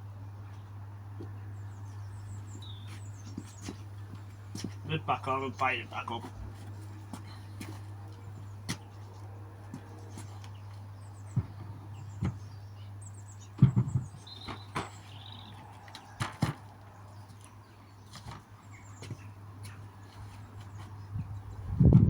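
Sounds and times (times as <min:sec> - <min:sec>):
steady low hum: 0:00.0 - 0:22.0
small birds chirping: 0:00.2 - 0:21.9.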